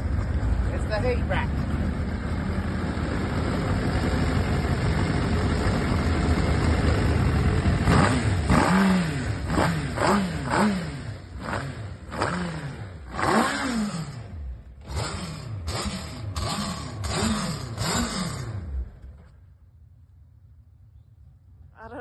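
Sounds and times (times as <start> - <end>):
car engine revving: 0.0 - 19.4.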